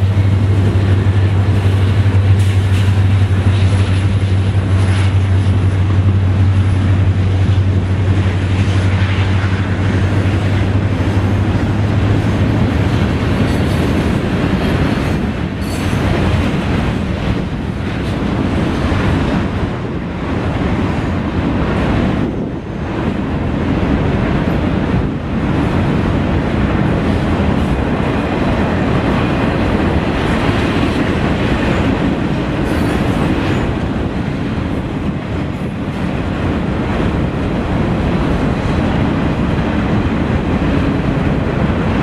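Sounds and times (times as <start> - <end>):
freight cars rolling on rails: 0.0 - 42.0
locomotive engine hum: 0.0 - 42.0.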